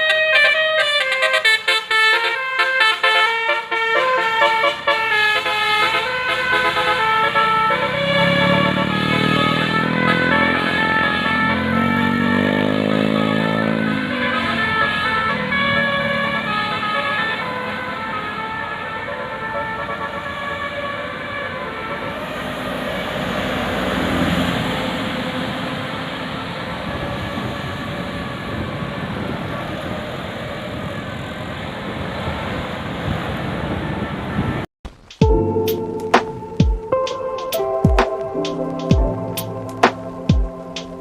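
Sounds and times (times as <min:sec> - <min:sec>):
multi-tone musical bus horn: 0:00.0 - 0:31.4, 0:33.5 - 0:34.7, 0:35.3 - 0:41.0
bus engine and road noise: 0:00.0 - 0:41.0.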